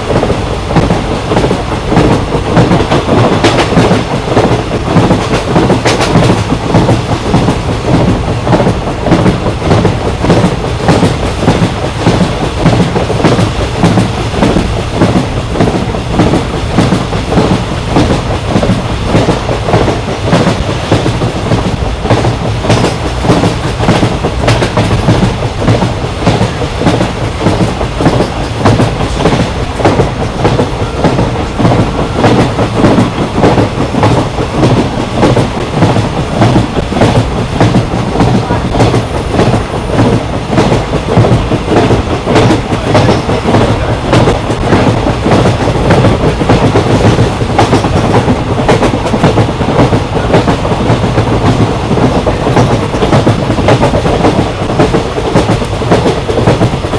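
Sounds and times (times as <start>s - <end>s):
train clattering on rails: 0.0s - 56.9s.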